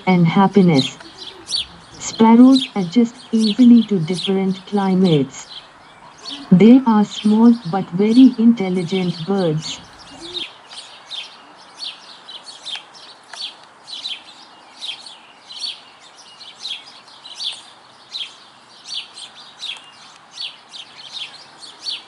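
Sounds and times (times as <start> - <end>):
sparrows chirping: 0.0 - 22.0.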